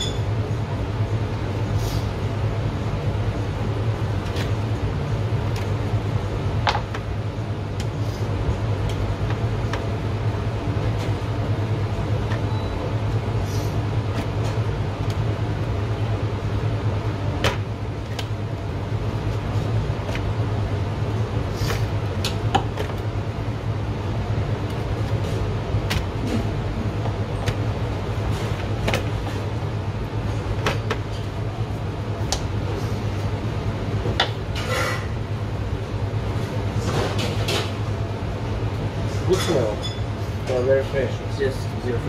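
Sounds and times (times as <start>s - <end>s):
kitchen machinery hum: 0.0s - 42.0s.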